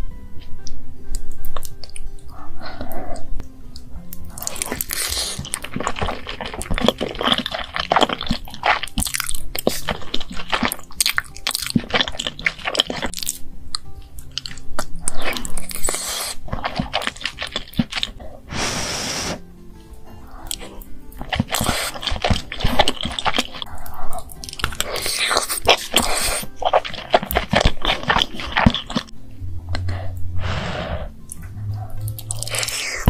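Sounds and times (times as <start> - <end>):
wet chewing mouth sounds: 4.0 - 19.4, 20.1 - 33.0.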